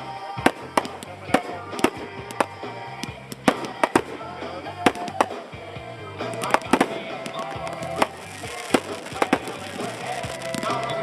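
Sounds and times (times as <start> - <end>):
fireworks bursting: 0.4 - 11.0.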